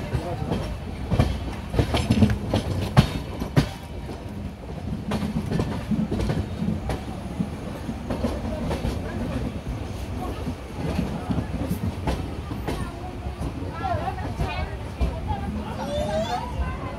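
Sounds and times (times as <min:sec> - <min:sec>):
train wheels rumbling: 0:00.0 - 0:16.9
wheels clickety-clack over rail joints: 0:00.0 - 0:16.9.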